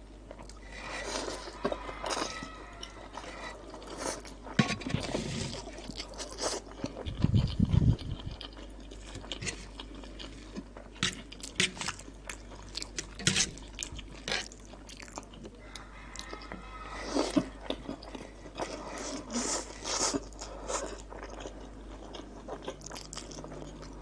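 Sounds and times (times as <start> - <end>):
crunching and chewing food: 0.2 - 24.0.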